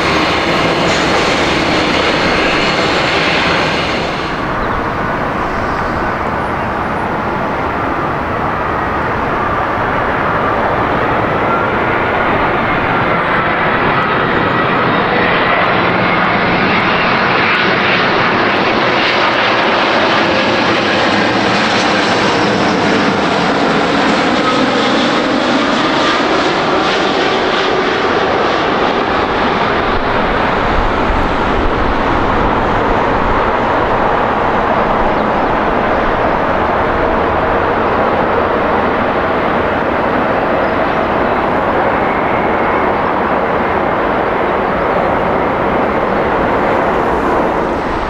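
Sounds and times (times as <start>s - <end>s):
jet engines roaring past: 0.0s - 48.0s.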